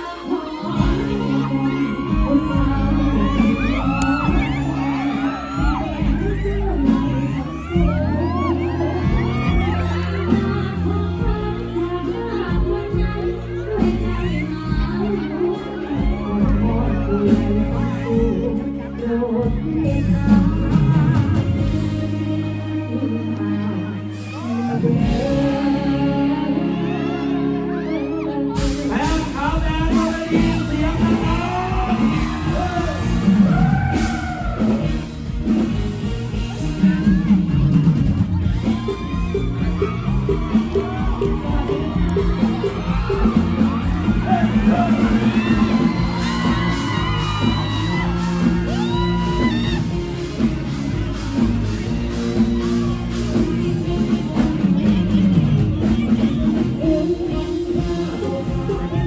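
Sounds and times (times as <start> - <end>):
live band music: 0.0 - 59.0
person singing: 0.0 - 59.0.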